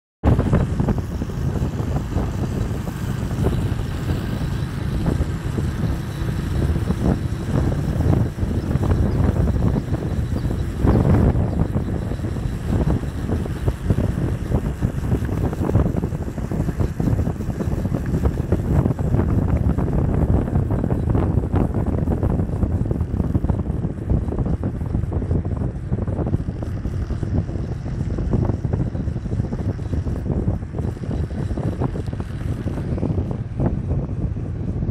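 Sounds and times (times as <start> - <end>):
vehicle low rumble: 0.2 - 34.9
wind buffeting microphone: 0.2 - 34.9.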